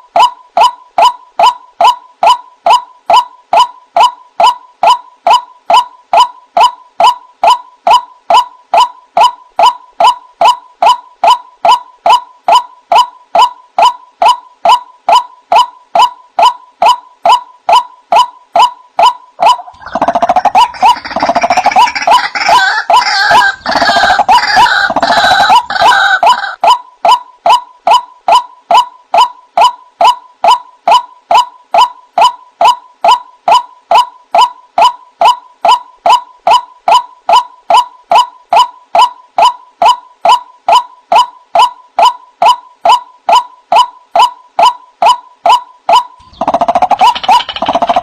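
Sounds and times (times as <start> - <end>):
harsh overlapping bird calls: 0.0 - 48.0.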